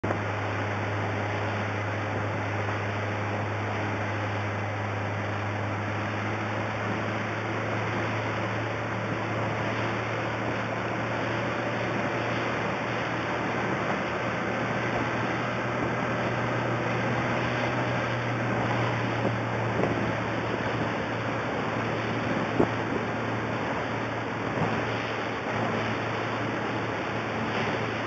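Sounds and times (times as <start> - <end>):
motorboat engine drone: 0.0 - 28.0
rush of wind and water: 0.0 - 28.0.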